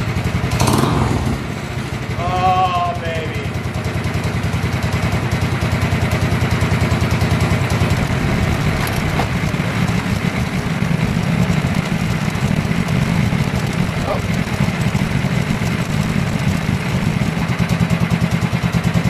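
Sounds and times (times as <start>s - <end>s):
kart engine idling: 0.0s - 19.0s.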